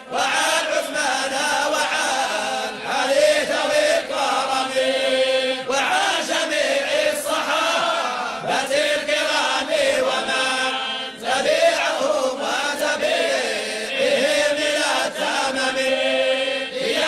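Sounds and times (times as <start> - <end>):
voices chanting devotional verse: 0.0 - 17.0.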